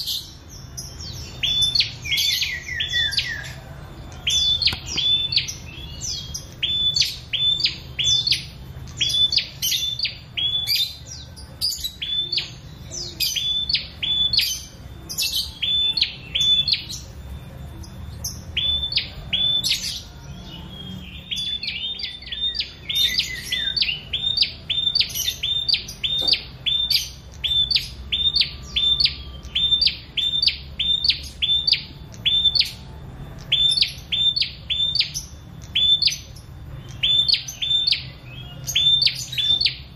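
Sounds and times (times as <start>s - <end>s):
bird singing sharp high notes: 0.0s - 39.9s.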